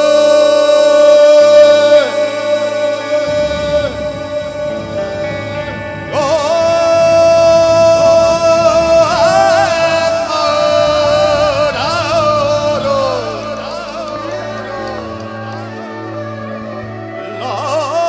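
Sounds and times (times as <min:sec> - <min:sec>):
sustained band backing: 0:00.0 - 0:18.0
wavering lead melody: 0:01.6 - 0:18.0.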